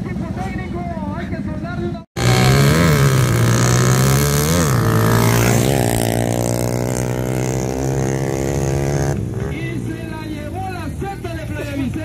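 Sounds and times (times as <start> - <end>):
racing motorcycles at full throttle: 2.2 - 12.0.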